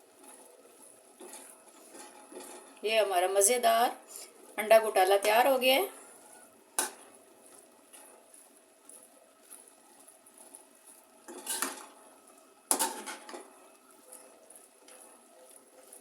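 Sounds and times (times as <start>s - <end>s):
spoon scraping in a pan: 0.0s - 16.0s.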